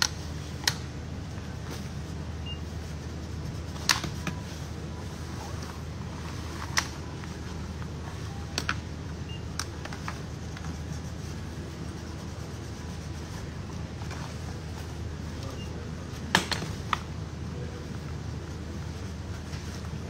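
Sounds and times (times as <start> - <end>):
shop interior hum: 0.0 - 20.0.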